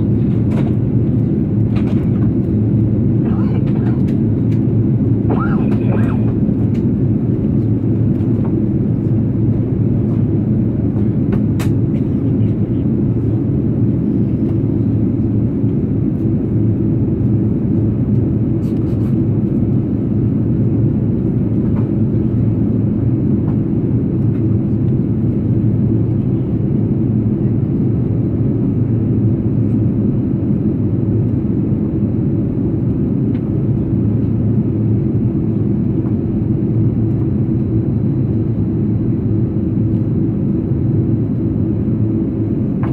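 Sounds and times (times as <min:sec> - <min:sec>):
airplane cabin drone: 0:00.0 - 0:42.9.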